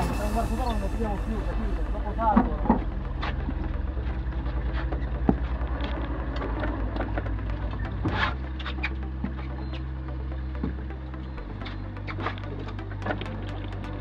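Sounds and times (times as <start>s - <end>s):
outboard motors droning: 0.0s - 14.0s.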